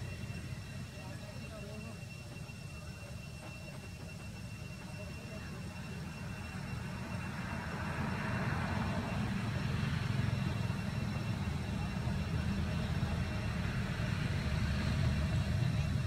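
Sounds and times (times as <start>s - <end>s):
faint high-pitched tones: 0.0s - 16.0s.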